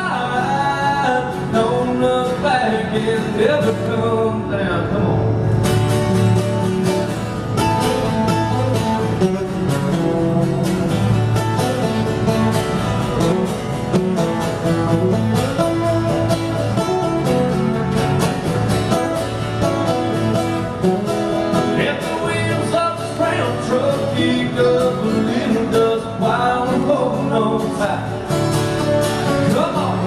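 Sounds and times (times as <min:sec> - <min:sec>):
country band playing: 0:00.0 - 0:30.0
guitar: 0:00.0 - 0:30.0.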